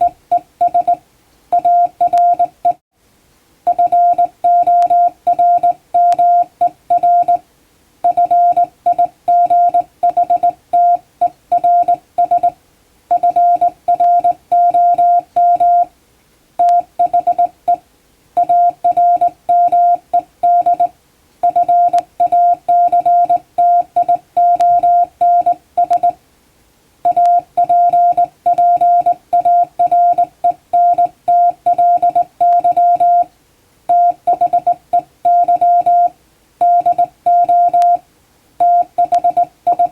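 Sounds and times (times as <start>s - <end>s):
morse code beeps: 0.0s - 2.8s, 3.7s - 7.4s, 8.1s - 15.9s, 16.6s - 17.8s, 18.4s - 26.2s, 27.1s - 33.3s, 33.9s - 38.0s, 38.6s - 39.9s.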